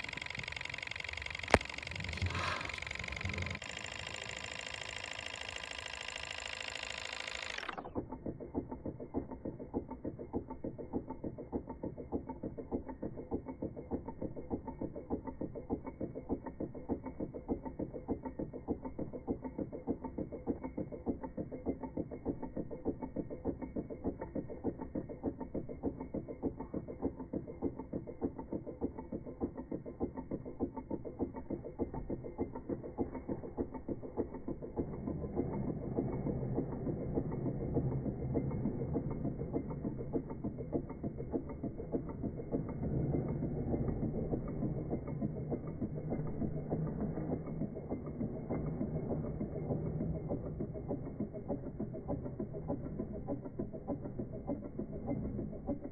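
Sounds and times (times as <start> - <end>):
stirling engine clicking: 0.0 - 55.9.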